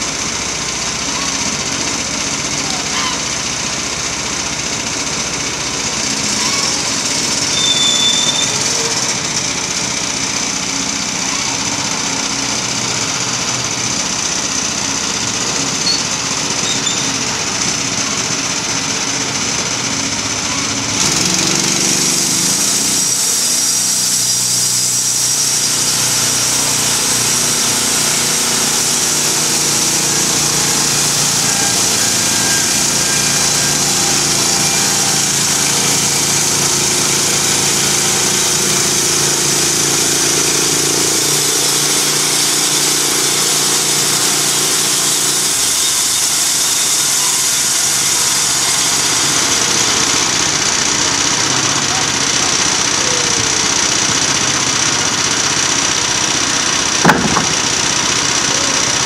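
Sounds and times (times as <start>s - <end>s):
small engine droning: 0.0s - 59.0s.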